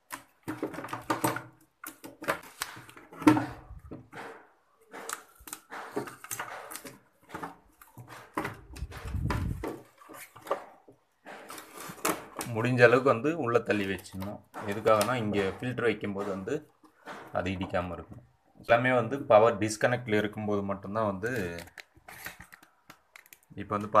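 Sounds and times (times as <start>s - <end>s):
clicks and knocks of plastic: 0.0s - 18.3s, 21.2s - 24.0s.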